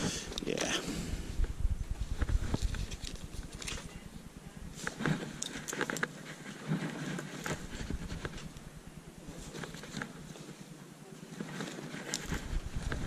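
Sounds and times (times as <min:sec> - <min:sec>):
fabric rustling: 0:01.8 - 0:13.0.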